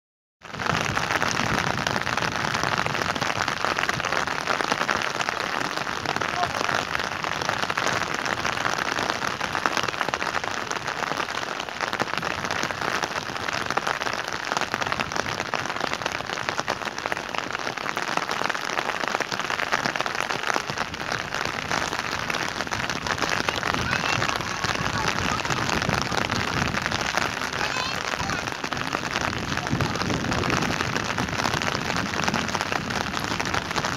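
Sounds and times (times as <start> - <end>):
steady rain: 0.4 - 33.9.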